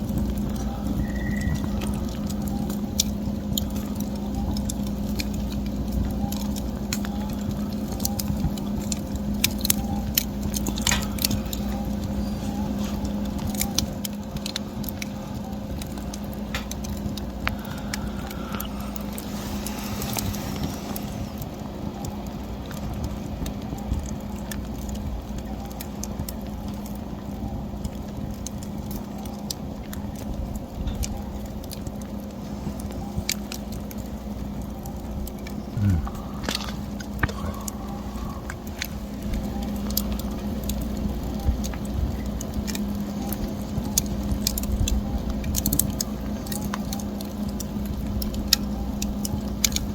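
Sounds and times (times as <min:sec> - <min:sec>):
steady low hum: 0:00.0 - 0:49.9
wood fire crackling: 0:00.0 - 0:49.9.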